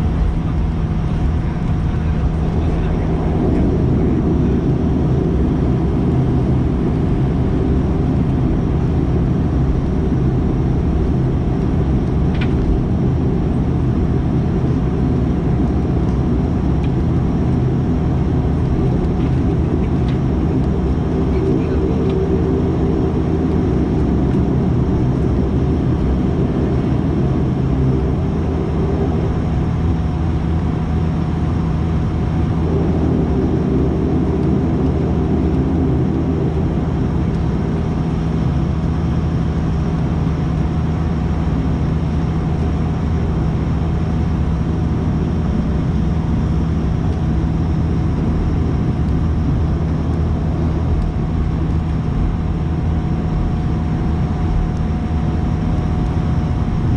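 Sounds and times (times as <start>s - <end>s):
turboprop cabin drone: 0.0s - 56.9s.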